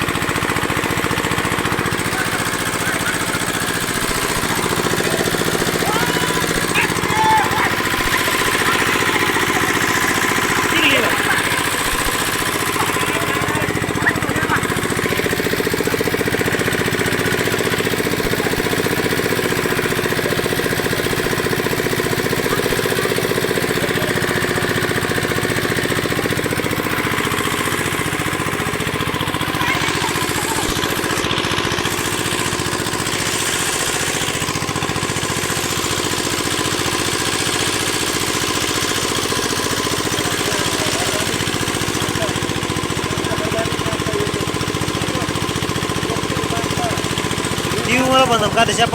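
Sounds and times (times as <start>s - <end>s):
small engine chugging: 0.0s - 48.9s.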